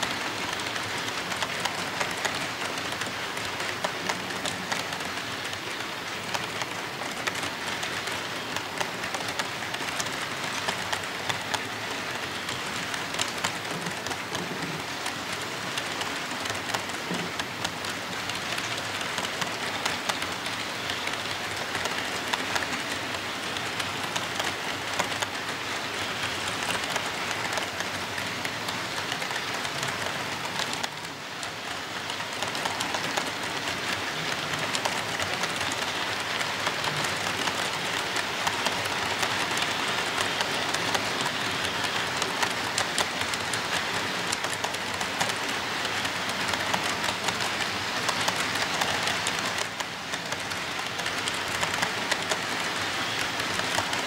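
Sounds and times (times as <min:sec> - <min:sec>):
model train wheels clattering: 0:00.0 - 0:54.0.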